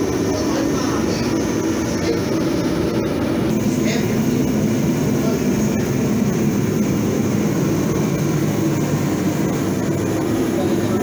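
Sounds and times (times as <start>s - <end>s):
machine roaring: 0.0s - 11.0s.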